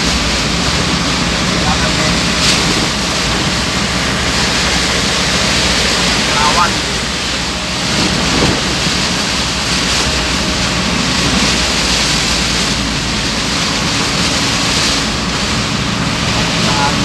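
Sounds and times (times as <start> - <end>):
heavy rain: 0.0 - 17.0
tyres on flooded road: 0.0 - 17.0.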